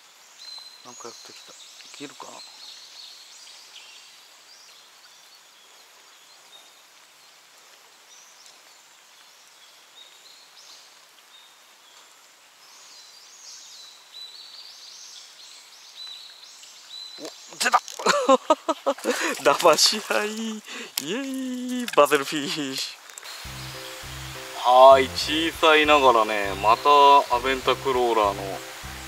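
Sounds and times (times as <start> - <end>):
small birds chirping: 0.3 - 29.0.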